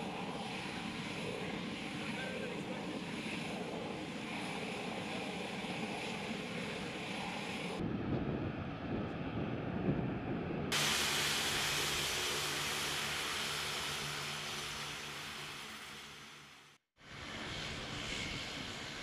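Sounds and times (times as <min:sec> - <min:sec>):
aircraft engine loud hiss: 0:00.0 - 0:08.8, 0:10.7 - 0:19.0
aircraft engine deep rumble: 0:00.0 - 0:19.0.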